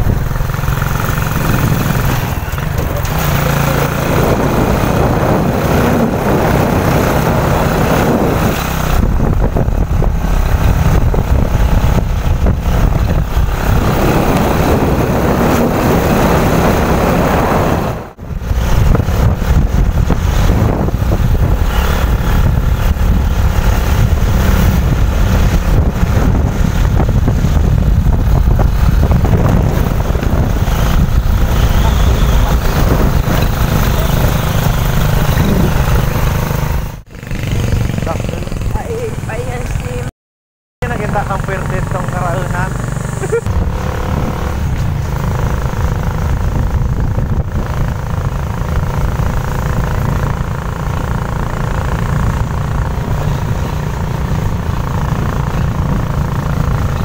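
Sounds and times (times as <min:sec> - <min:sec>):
motorcycle engine at speed: 0:00.0 - 0:40.1, 0:40.8 - 0:57.0
wind rush on microphone: 0:00.0 - 0:40.1, 0:41.7 - 0:57.0.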